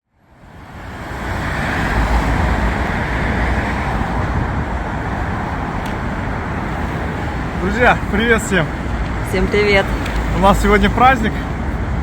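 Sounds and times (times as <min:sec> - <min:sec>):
road traffic rumble: 0:00.2 - 0:12.0.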